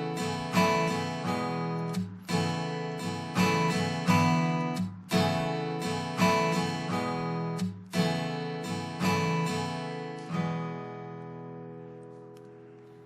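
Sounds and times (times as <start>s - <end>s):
strummed guitar chords: 0.0s - 12.2s.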